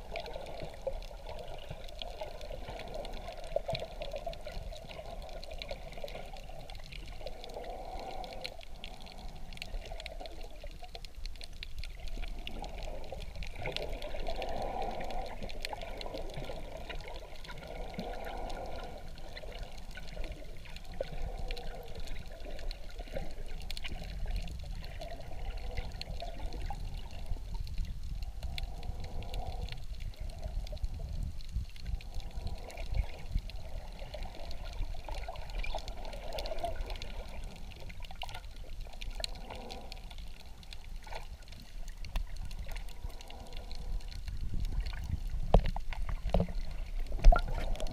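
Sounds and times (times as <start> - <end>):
fine crackle of clicks: 0.0 - 47.9
muffled underwater rushing: 0.0 - 47.9.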